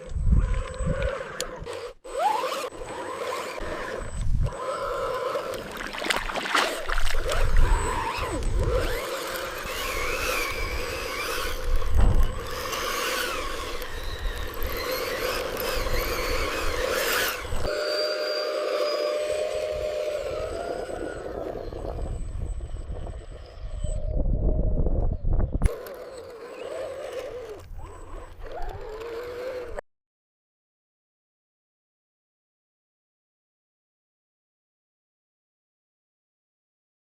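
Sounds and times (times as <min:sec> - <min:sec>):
electric motors whining: 0:00.0 - 0:29.8.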